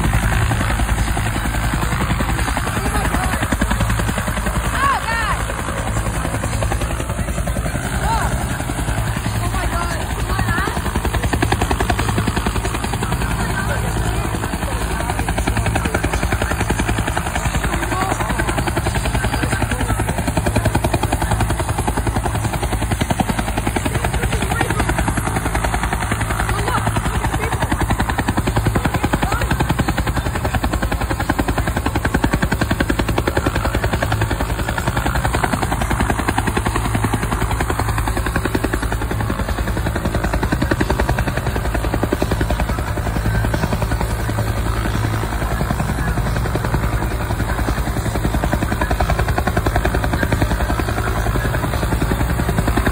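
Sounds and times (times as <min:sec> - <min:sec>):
helicopter rotor chop: 0:00.0 - 0:52.9
turbine engine whine: 0:00.0 - 0:52.9.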